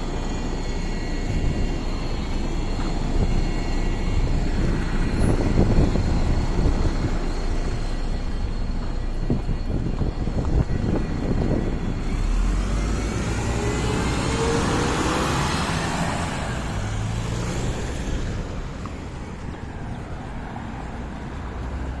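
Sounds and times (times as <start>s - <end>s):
faint gliding whine: 0.0s - 21.2s
bus diesel engine idling: 0.0s - 22.0s.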